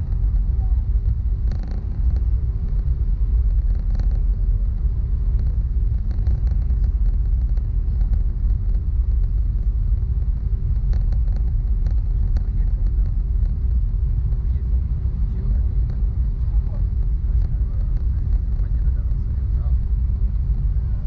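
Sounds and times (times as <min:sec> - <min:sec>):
aircraft cabin low rumble: 0:00.0 - 0:21.0
faint constant hum: 0:00.0 - 0:21.0
light rattles: 0:00.0 - 0:21.0.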